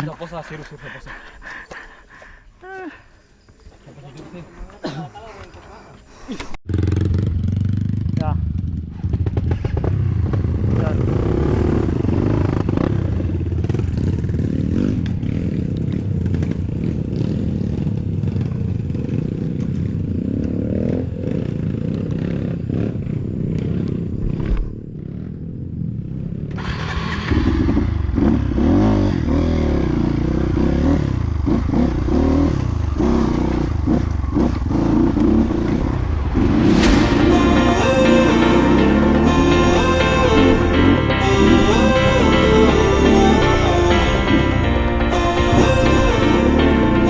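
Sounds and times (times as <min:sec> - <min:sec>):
motorcycle engine revving: 0:06.6 - 0:47.0.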